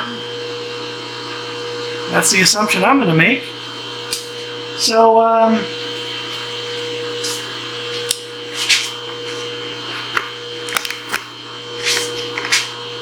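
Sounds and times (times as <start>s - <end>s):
milling machine electrical hum: 0.0s - 13.0s.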